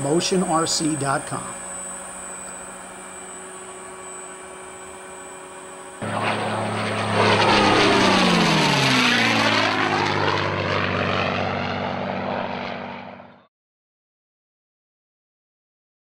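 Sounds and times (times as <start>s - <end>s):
propeller airplane flying past: 0.0s - 13.5s.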